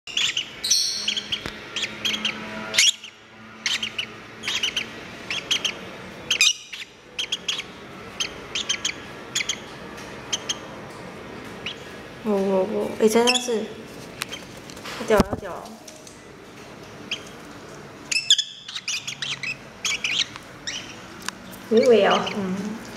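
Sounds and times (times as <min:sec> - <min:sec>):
bird chicks chirping: 0:00.1 - 0:10.9, 0:11.5 - 0:12.0, 0:13.0 - 0:15.5, 0:17.0 - 0:22.9.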